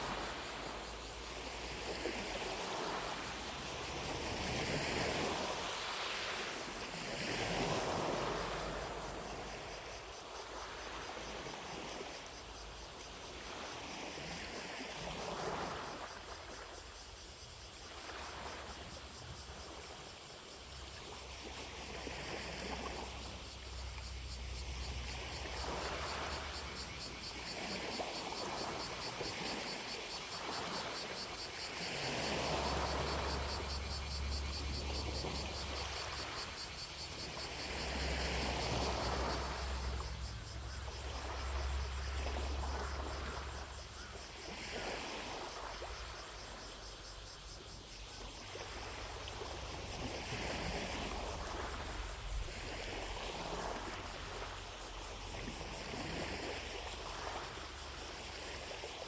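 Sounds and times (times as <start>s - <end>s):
distant cicadas buzzing: 0.0s - 59.0s
lake waves lapping at shore: 0.0s - 59.0s.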